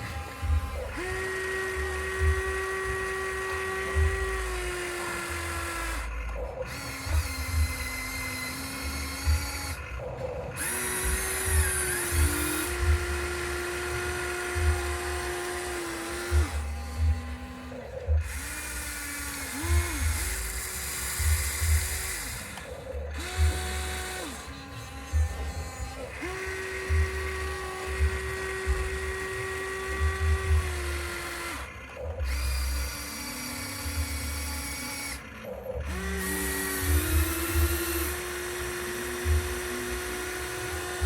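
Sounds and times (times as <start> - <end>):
small electric motors whining: 0.0 - 41.0.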